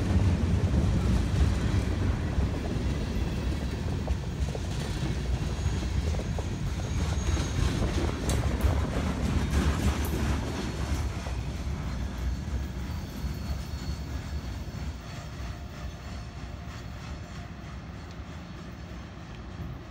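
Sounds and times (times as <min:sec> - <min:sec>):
freight train rumbling: 0:00.0 - 0:19.9.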